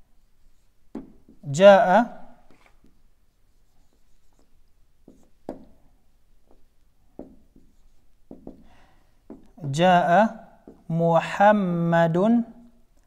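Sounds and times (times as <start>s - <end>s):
marker writing on whiteboard: 0.1s - 11.4s.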